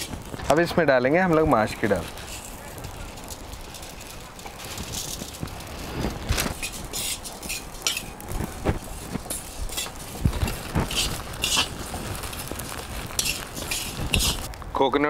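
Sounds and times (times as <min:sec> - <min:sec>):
seeds rustling: 0:00.0 - 0:14.7
metal spatula scraping spices in pan: 0:01.6 - 0:14.5.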